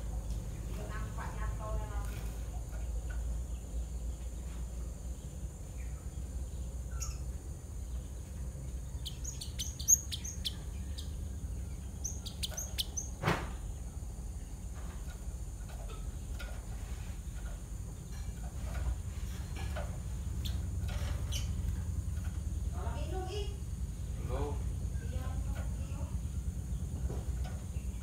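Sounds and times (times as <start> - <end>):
sparrows chirping: 0.0 - 28.0
steady low hum: 0.0 - 28.0.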